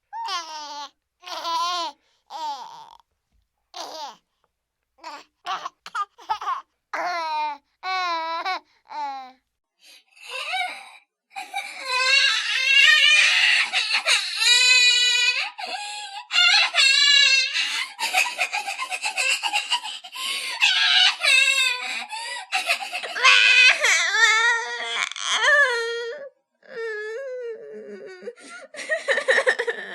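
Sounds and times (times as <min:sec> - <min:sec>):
baby crying: 0:00.1 - 0:03.0, 0:03.8 - 0:04.2, 0:05.0 - 0:09.4, 0:10.2 - 0:27.2.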